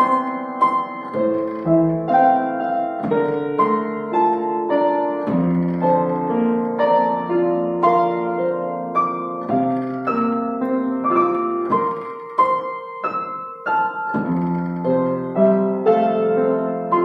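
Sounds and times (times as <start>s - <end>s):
upright piano playing: 0.0s - 17.0s.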